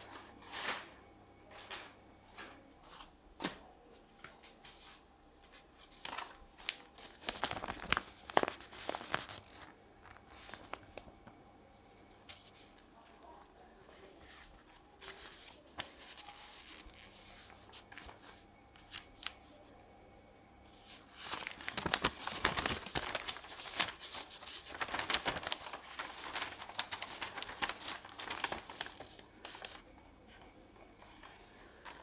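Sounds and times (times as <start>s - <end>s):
paper and plastic packaging rustling: 4.2s - 19.6s, 20.7s - 32.0s.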